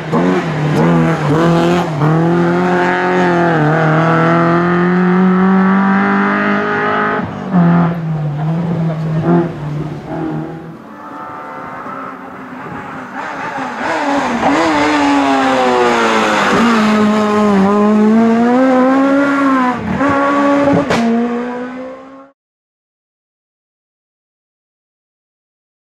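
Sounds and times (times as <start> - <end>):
rally car engine at high revs: 0.0 - 22.4.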